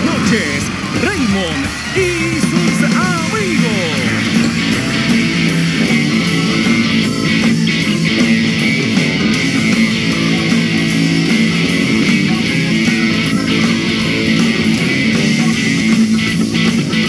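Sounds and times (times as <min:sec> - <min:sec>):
electric guitar: 0:00.0 - 0:17.0
rock band instrumental: 0:00.0 - 0:17.0.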